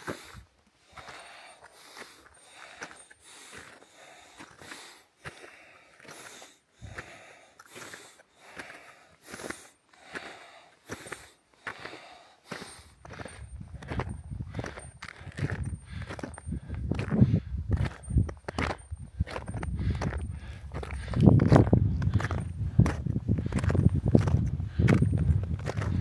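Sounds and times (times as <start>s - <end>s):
hard breathing: 0.0s - 26.0s.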